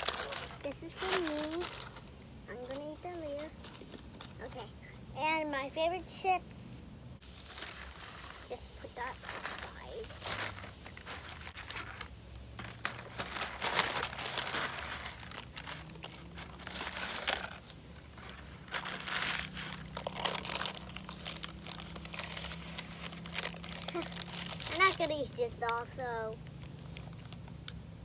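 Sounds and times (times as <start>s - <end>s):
food packaging crinkling: 0.0s - 2.8s, 7.2s - 27.6s.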